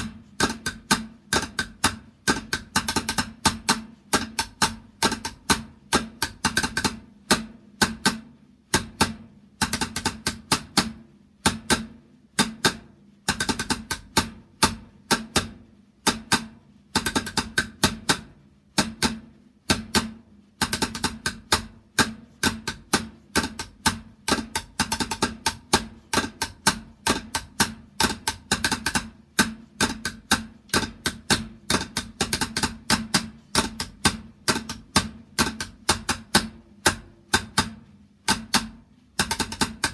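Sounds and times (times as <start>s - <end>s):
drum strikes and rolls: 0.0s - 39.9s.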